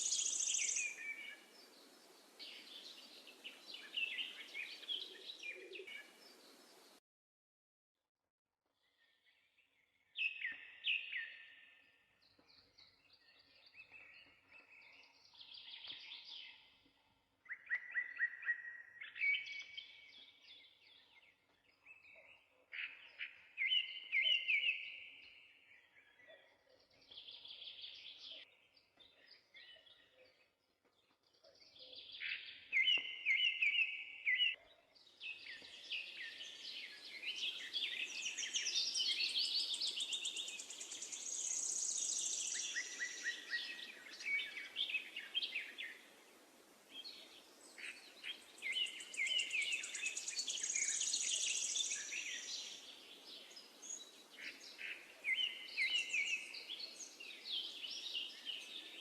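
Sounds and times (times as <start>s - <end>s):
songbirds chirping: 0.0s - 7.0s, 8.8s - 59.0s.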